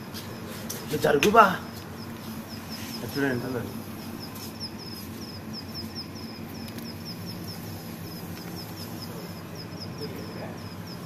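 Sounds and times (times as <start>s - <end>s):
insect chirping: 0.0s - 11.0s
low steady hum: 0.0s - 11.0s.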